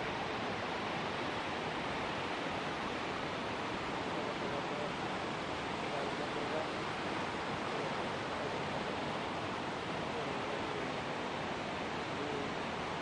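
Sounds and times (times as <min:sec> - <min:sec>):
waterfall and river rushing: 0:00.0 - 0:13.0.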